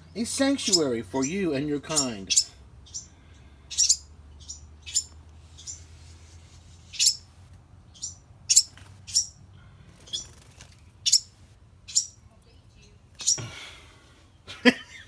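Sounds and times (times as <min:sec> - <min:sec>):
baby birds chirping: 0:00.0 - 0:10.4, 0:11.0 - 0:13.6.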